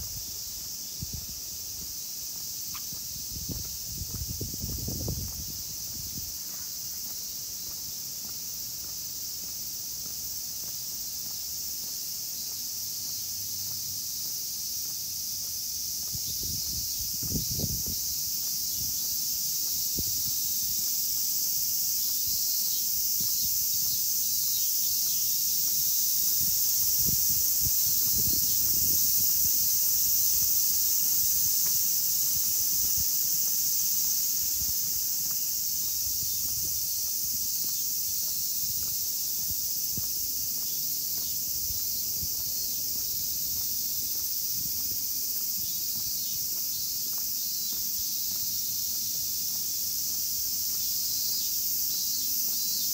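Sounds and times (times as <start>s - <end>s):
cicadas singing: 0.0s - 52.9s
soft footsteps on pavement: 0.0s - 52.9s.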